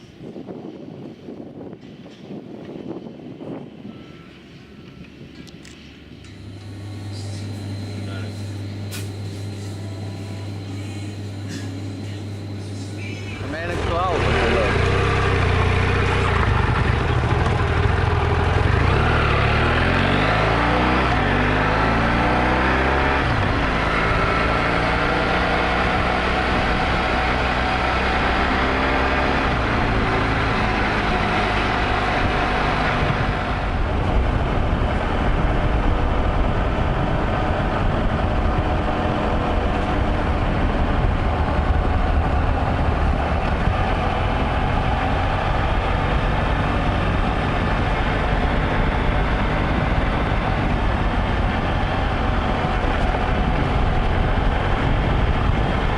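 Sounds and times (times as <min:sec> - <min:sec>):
road and wind noise: 0:00.0 - 0:55.9
motorcycle engine running: 0:06.3 - 0:55.9.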